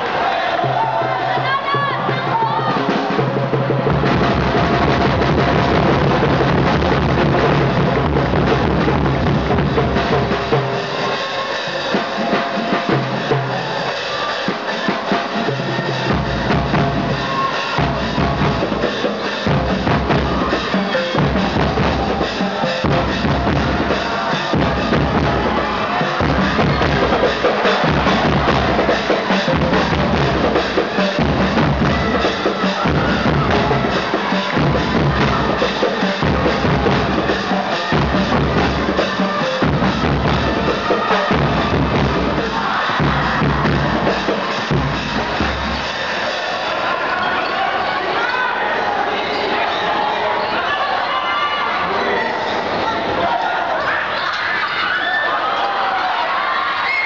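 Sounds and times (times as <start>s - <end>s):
drumbeat and percussion: 0.0s - 47.2s
loud crowd noise: 0.0s - 57.0s.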